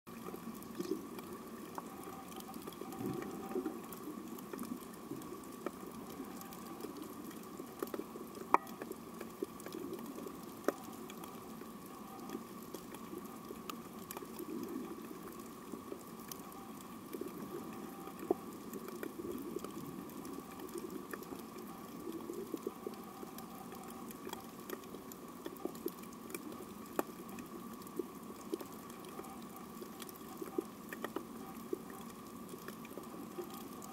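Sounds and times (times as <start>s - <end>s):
crackle of sharp clicks underwater: 0.1s - 33.9s
faint steady hum: 0.1s - 33.9s.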